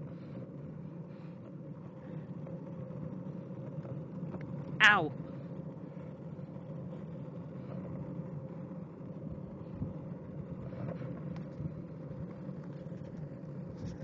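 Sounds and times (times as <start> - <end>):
longboard wheels rolling on asphalt: 0.0 - 14.0.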